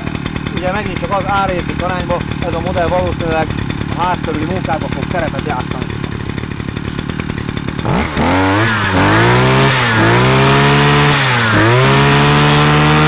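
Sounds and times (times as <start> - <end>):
brush cutter engine revving: 0.0 - 13.0.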